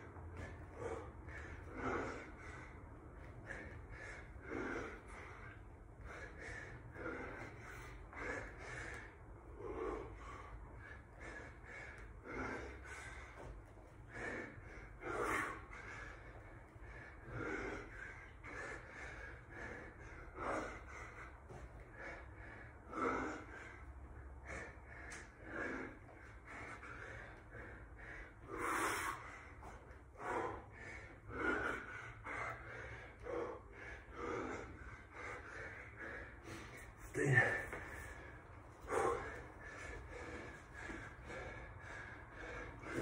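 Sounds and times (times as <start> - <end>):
man breathing hard: 0.0 - 43.0.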